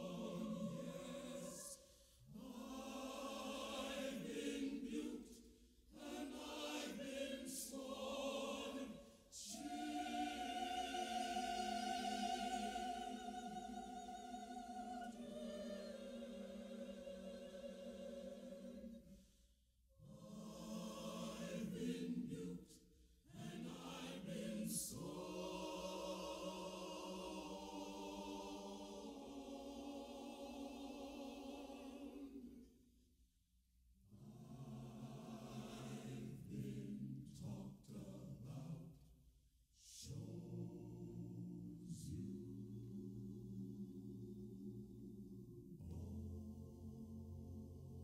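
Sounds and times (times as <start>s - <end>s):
choir singing: 0.0s - 19.3s, 20.0s - 33.0s, 34.0s - 48.0s.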